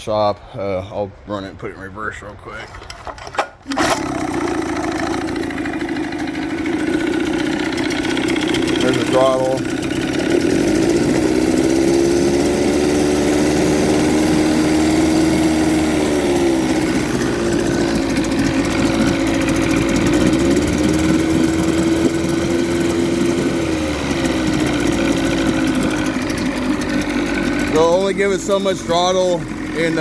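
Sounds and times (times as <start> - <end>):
outboard motor revving: 3.6 - 30.0.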